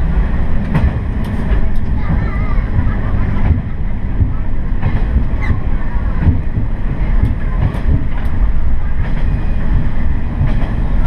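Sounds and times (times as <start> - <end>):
railcar engine and wheels rumbling: 0.0 - 11.0
track clicks and knocks: 0.0 - 11.0.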